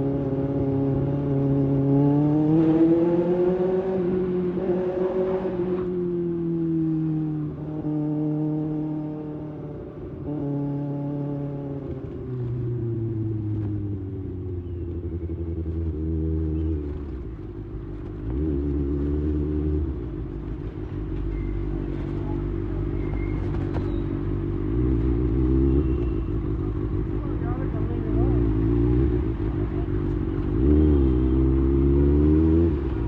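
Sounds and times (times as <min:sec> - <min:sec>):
motorcycle engine at low revs: 0:00.0 - 0:33.0.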